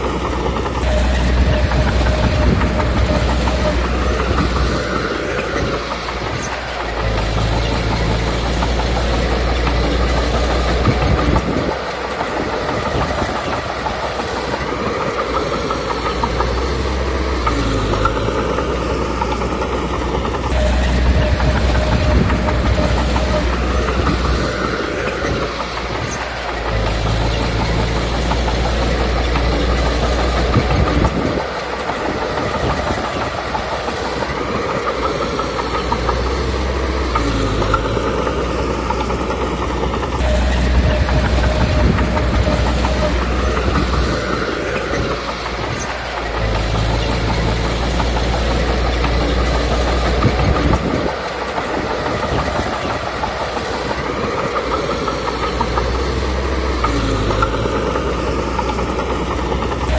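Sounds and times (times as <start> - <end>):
bulldozer diesel engine rumbling: 0.0 - 59.9
steel tracks clanking: 0.0 - 59.9.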